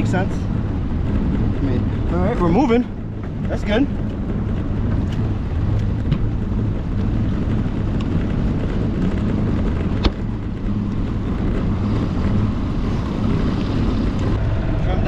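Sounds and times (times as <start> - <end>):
outboard motor running: 0.0 - 14.4
wind noise on microphone: 0.0 - 15.0.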